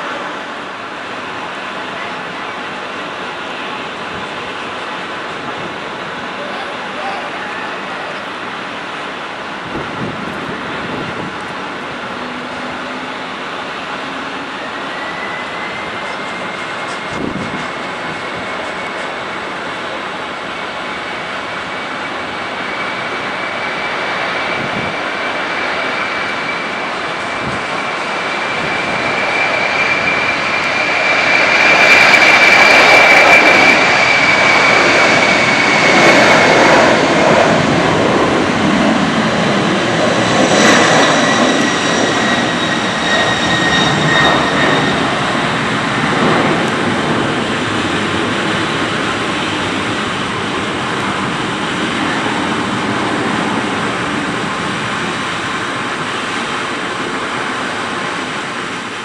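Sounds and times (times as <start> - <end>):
high jet whine: 0.0 - 59.0
jet engines at takeoff: 0.0 - 59.0.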